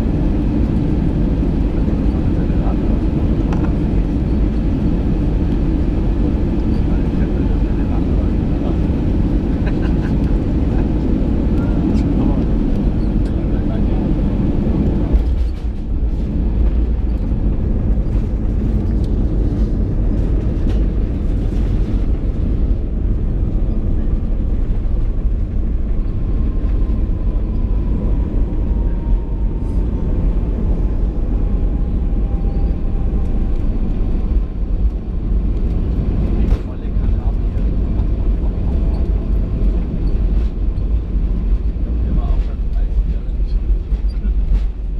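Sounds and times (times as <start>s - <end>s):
airplane cabin engine rumble: 0.0s - 44.9s.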